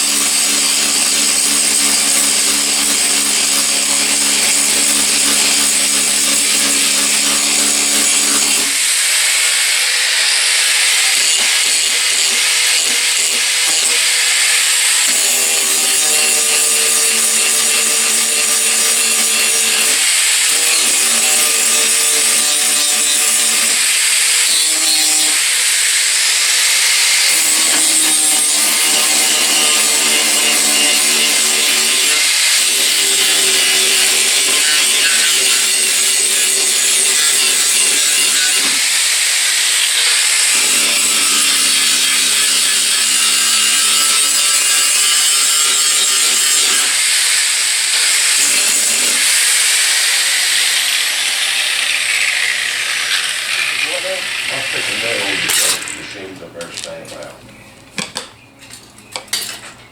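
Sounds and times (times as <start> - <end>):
power tool abrasive hiss and hum: 0.0 - 57.3.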